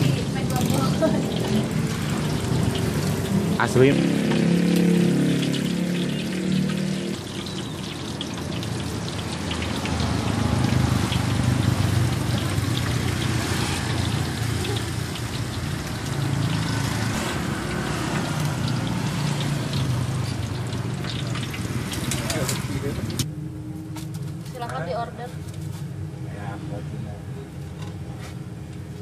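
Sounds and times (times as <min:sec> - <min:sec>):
oil sizzling crackle: 0:00.0 - 0:23.2.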